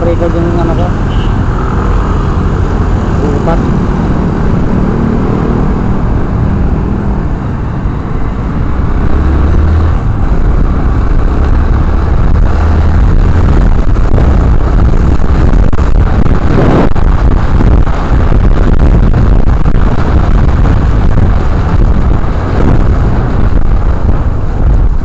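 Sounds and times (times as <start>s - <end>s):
motorcycle road and wind rumble: 0.0s - 25.0s.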